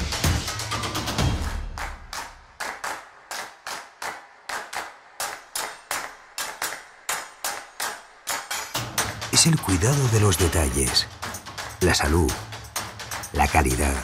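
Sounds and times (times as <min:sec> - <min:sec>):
background music: 0:00.0 - 0:14.0
rhythmic sharp claps or knocks: 0:00.0 - 0:14.0.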